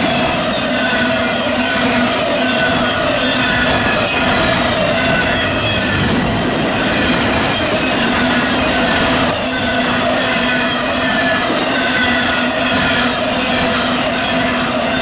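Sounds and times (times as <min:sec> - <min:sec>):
freight train cars on rails: 0:00.0 - 0:15.0
high wheel squeals: 0:00.2 - 0:15.0.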